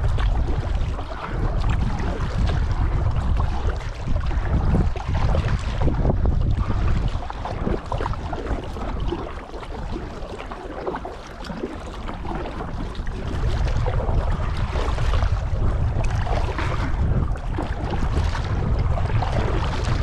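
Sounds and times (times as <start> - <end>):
paddle splashing in water: 0.0 - 20.0
wind buffeting microphone: 0.0 - 20.0.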